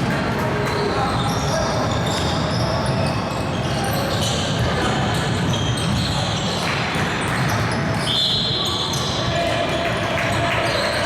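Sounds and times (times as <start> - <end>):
voices echoing in a hall: 0.0 - 11.0.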